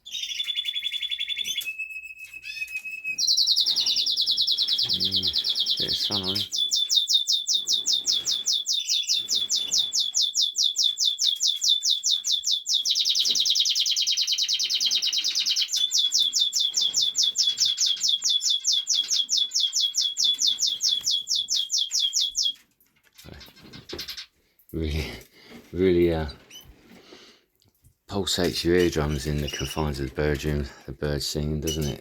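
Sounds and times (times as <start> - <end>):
canary singing trills: 0.0 - 24.4, 28.4 - 30.4, 31.4 - 32.0.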